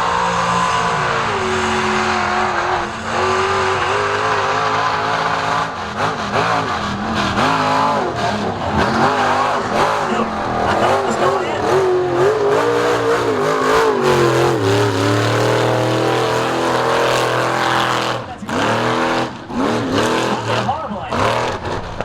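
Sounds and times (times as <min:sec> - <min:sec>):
truck engine revving under load: 0:00.0 - 0:22.0.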